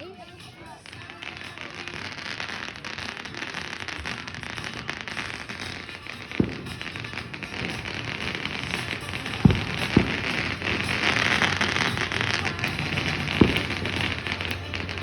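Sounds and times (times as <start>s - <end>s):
firework bangs: 0.0s - 15.0s
fireworks crackling: 0.0s - 15.0s.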